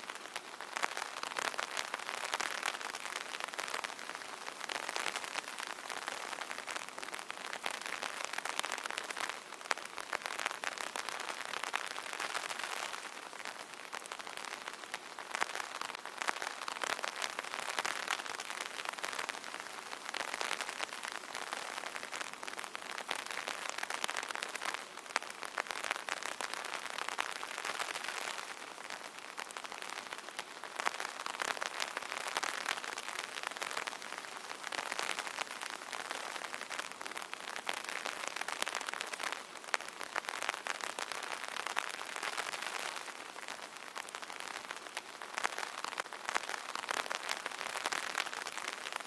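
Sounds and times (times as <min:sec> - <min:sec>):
rain pattering on umbrella: 0:00.0 - 0:49.0.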